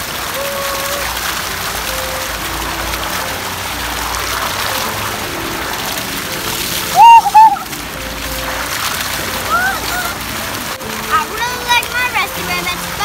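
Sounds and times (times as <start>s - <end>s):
water splashing and churning: 0.0s - 13.0s.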